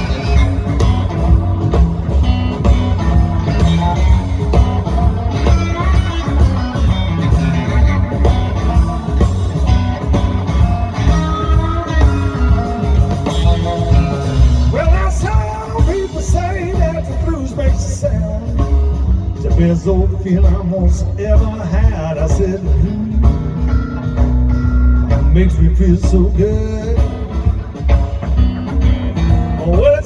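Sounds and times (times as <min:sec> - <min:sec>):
bass and drums: 0:00.0 - 0:30.0
electric guitar: 0:00.0 - 0:30.0.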